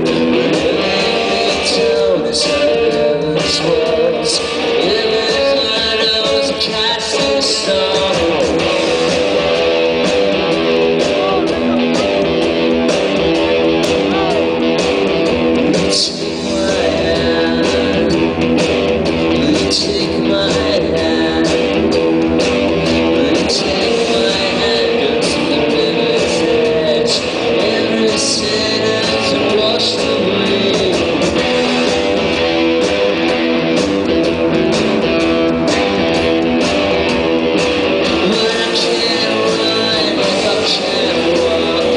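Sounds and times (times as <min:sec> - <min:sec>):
loud electric guitar: 0:00.0 - 0:41.9
person singing: 0:00.0 - 0:41.9.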